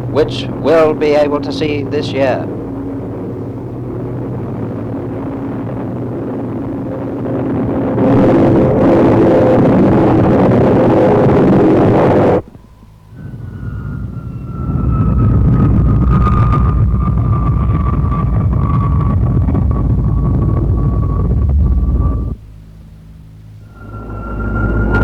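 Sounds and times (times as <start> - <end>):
high jet whine: 0.0 - 25.0
jet engine roar: 0.0 - 25.0.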